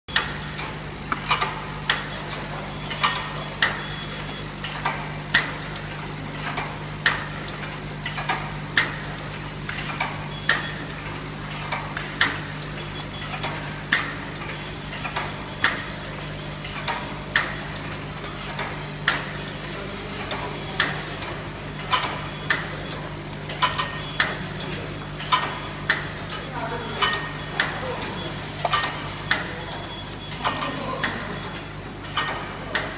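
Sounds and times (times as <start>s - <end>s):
machine motor hum: 0.1s - 32.9s.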